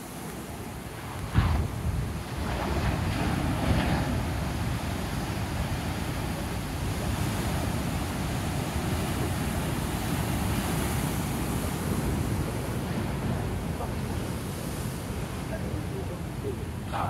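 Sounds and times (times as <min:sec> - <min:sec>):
ocean surf breaking on rocks: 0:00.0 - 0:17.0
wind buffeting microphone: 0:00.0 - 0:17.0.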